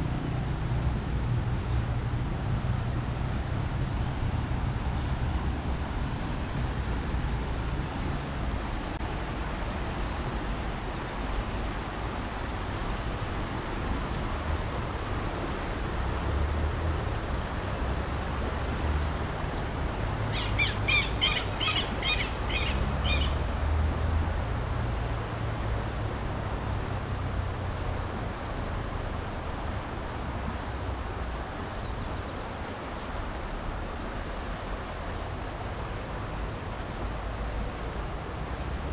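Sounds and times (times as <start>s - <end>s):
fast-flowing river rushing: 0.0s - 38.9s.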